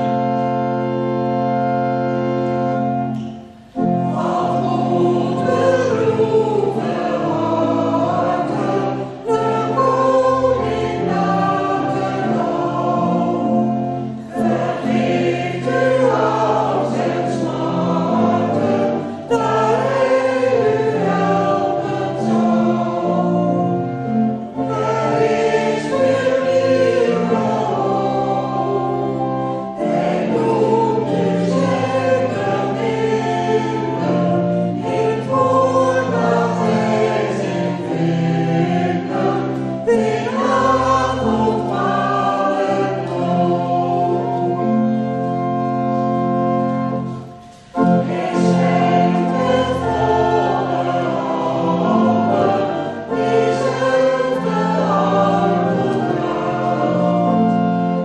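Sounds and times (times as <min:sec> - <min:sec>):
congregation singing a hymn: 0:00.0 - 0:58.0
organ accompaniment: 0:00.0 - 0:58.0.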